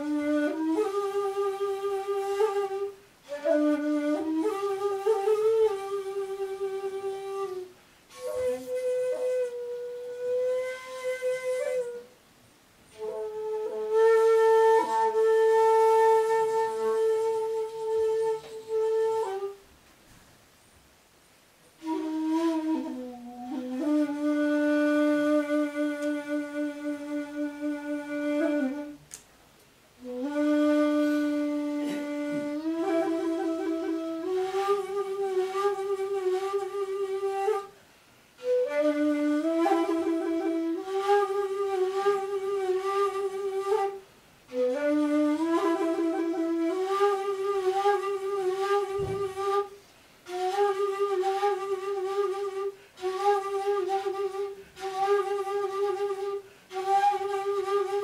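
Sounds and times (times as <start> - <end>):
bamboo flute playing: 0.0 - 19.7, 21.8 - 29.3, 29.9 - 58.0.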